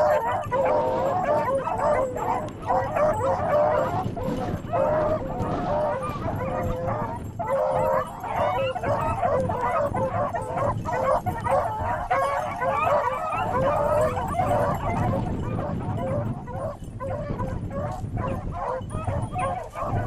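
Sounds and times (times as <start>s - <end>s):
pack of hounds baying: 0.0s - 20.0s.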